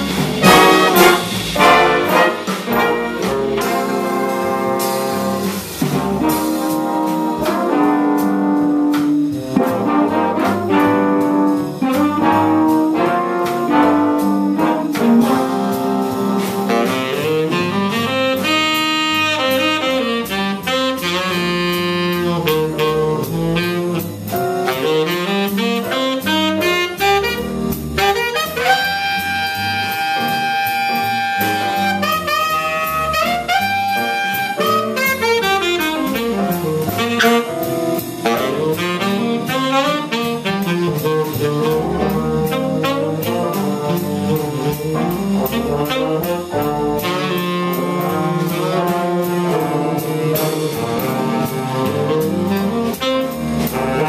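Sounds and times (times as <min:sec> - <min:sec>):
brass section playing: 0:00.0 - 0:54.0
tenor saxophone solo: 0:00.4 - 0:05.5, 0:06.1 - 0:54.0.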